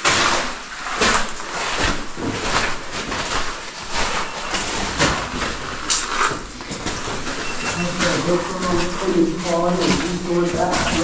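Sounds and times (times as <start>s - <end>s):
footsteps crunching on cave floor: 0.1s - 11.0s.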